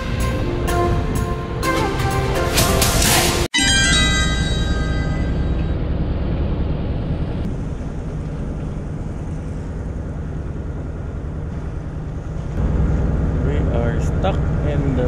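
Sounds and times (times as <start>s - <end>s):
ferry engine drone: 0.0s - 15.0s.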